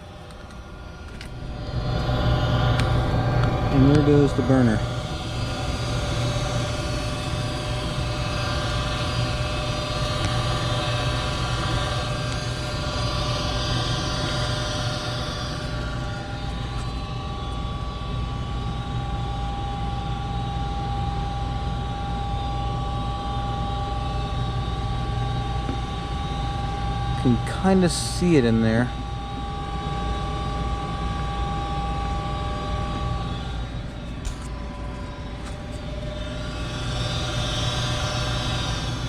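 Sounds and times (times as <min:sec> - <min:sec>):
furnace inducer fan hum: 0:00.0 - 0:39.0
steady whining tones: 0:00.0 - 0:39.0.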